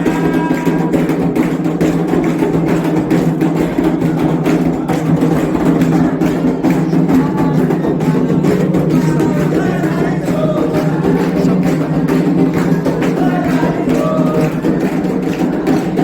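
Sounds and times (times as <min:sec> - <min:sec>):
hand drums playing rhythm: 0:00.0 - 0:16.0.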